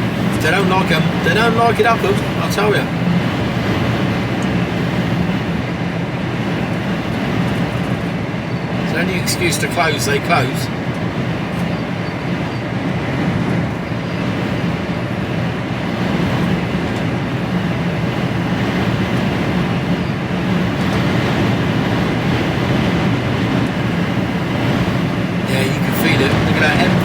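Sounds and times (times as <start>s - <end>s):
storm wind against truck cab: 0.0s - 27.0s
truck engine and road noise: 0.0s - 27.0s.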